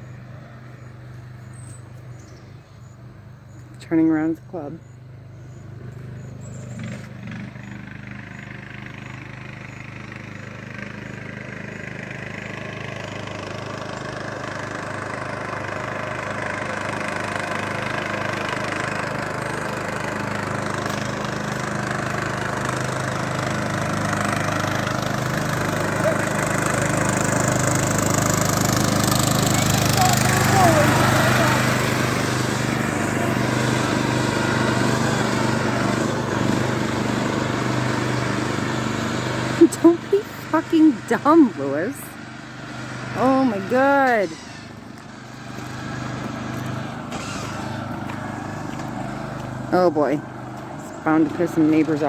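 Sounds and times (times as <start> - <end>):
riding lawn mower engine running: 0.0 - 52.0.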